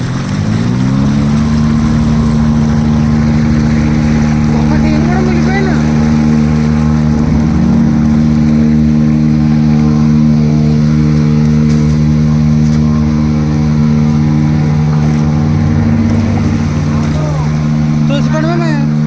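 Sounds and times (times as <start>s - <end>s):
motorbike engine in water: 0.0s - 19.0s.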